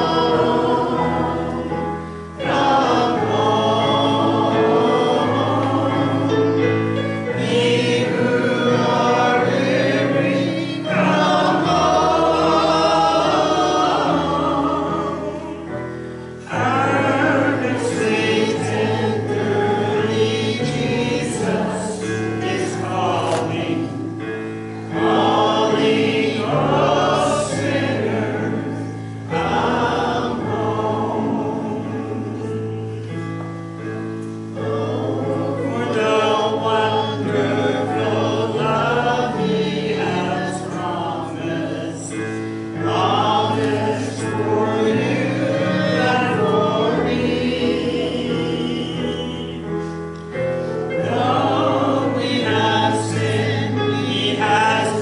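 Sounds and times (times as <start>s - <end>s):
congregation singing a hymn: 0.0s - 55.0s.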